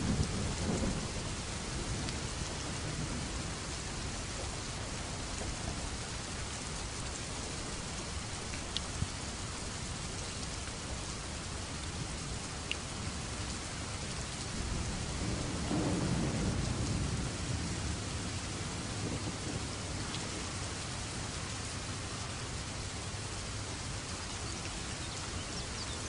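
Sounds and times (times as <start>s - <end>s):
low rumble of thunder: 0.0s - 26.0s
raindrops ticking: 0.0s - 26.0s
steady rain falling: 0.0s - 26.0s.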